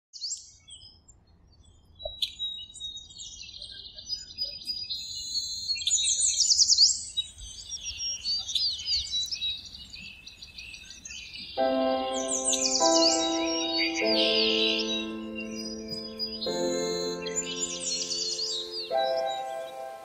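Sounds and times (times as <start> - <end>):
birds chirping and trilling: 1.6 - 20.0.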